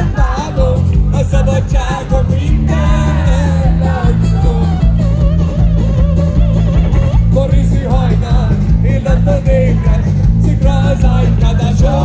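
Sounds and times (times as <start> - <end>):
lead vocal singing: 0.0 - 5.1, 7.1 - 12.0
heavy driving bass line: 0.0 - 12.0
live rock band playing: 0.0 - 12.0.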